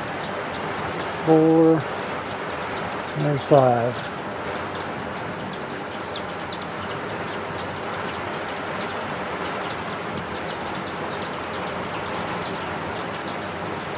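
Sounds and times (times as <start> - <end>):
hummingbirds trilling: 0.0 - 13.9
whir of hummingbird wings: 0.0 - 13.9.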